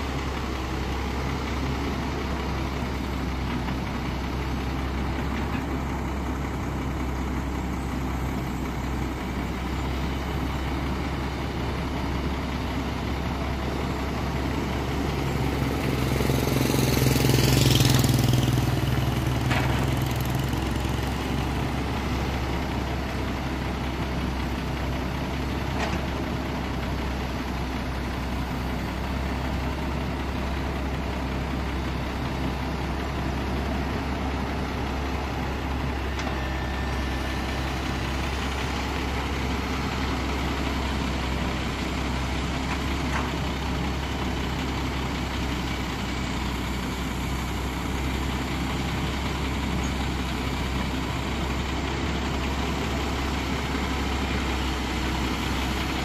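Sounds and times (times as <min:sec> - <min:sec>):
excavator diesel engine humming: 0:00.0 - 0:56.0.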